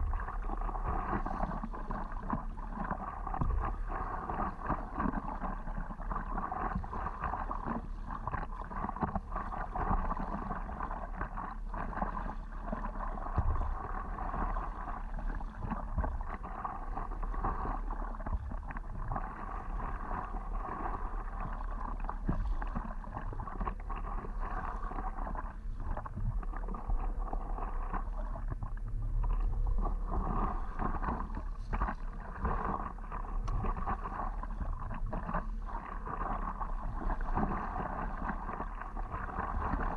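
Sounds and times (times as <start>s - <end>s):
low rumble: 0.0s - 39.9s
water sloshing and splashing: 0.0s - 39.9s.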